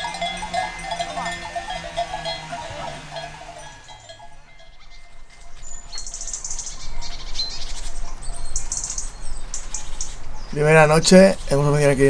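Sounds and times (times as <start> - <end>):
livestock bells clinking faintly: 0.0 - 11.4
small birds twittering: 0.0 - 12.0.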